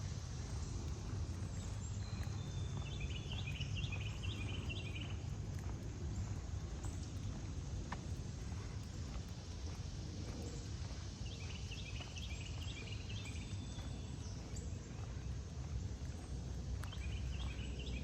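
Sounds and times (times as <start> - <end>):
faint footsteps: 0.0 - 18.0.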